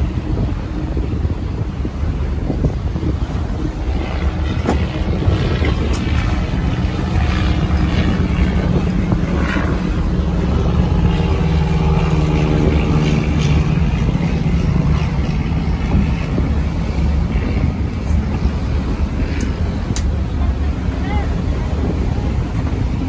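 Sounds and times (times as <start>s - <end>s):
boat engine droning: 0.0s - 23.0s
higher engine tone: 0.0s - 23.0s
wind buffeting microphone: 0.0s - 23.0s.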